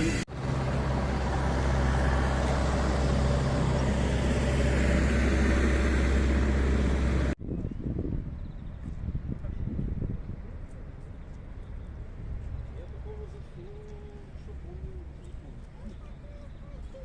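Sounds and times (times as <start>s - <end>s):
low engine hum: 0.0s - 17.0s
road noise: 0.0s - 17.0s.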